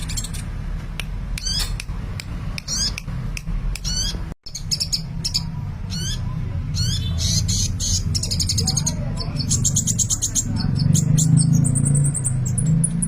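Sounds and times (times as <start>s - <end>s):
sunbird chirping and trilling: 0.0s - 0.5s, 1.4s - 1.8s, 2.6s - 3.1s, 3.8s - 13.0s.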